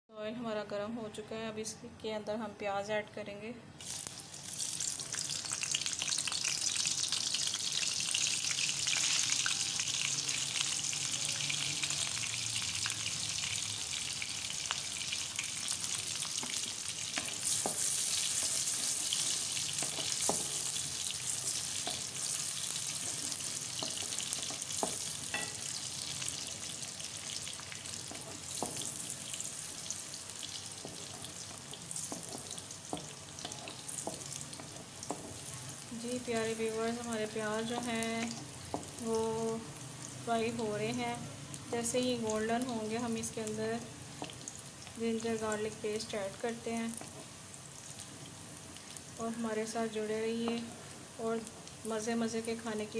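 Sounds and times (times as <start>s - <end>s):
onions sizzling in oil: 3.8s - 52.9s.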